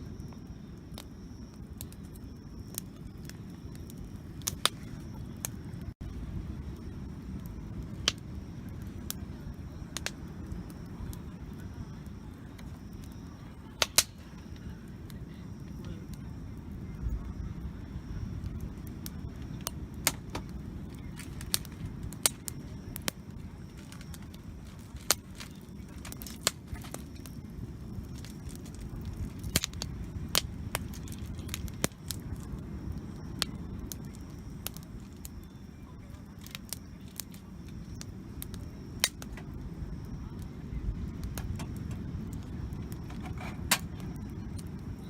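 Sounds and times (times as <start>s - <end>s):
campfire crackling and popping: 0.0s - 45.0s
low fire rumble: 0.0s - 45.0s.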